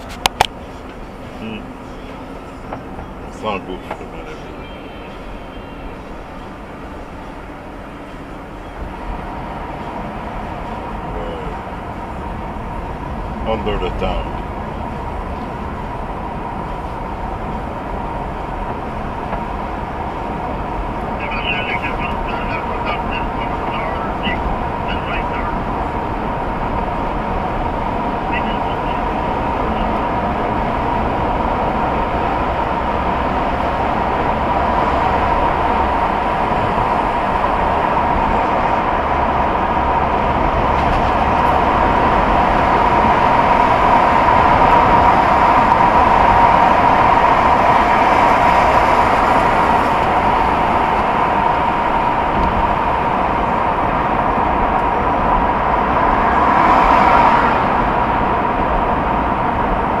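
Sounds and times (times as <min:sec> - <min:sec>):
car passing: 0:00.0 - 1:00.0
car road noise in tunnel: 0:00.0 - 1:00.0.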